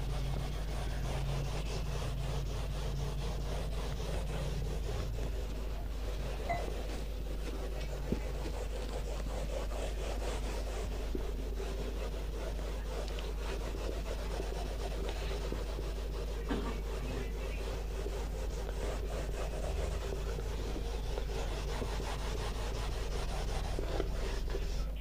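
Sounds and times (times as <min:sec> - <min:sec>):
eraser rubbing on whiteboard: 0:00.0 - 0:25.0.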